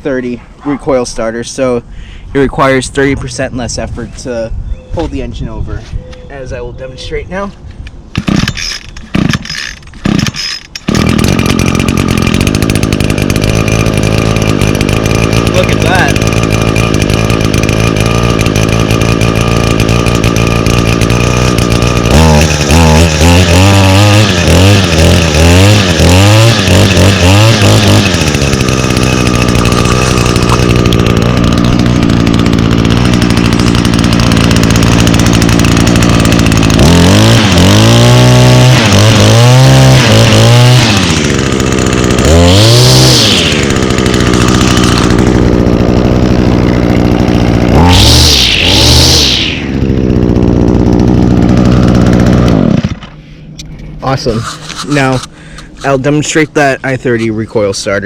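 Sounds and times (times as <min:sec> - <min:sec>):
string trimmer engine revving: 0:08.1 - 0:58.0.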